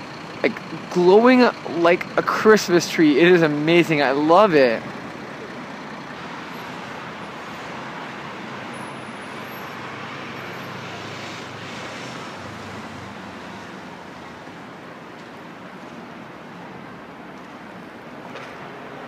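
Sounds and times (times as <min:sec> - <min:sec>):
city traffic hiss: 0:00.0 - 0:19.0.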